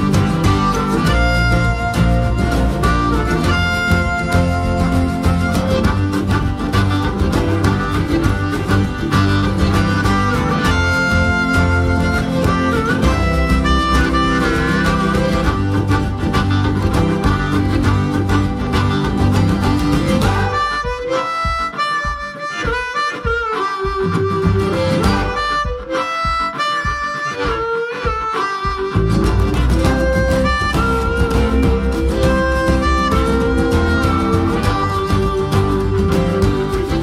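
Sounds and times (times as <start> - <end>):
bending lead melody: 0.0 - 37.0
country instrumental music: 0.0 - 37.0.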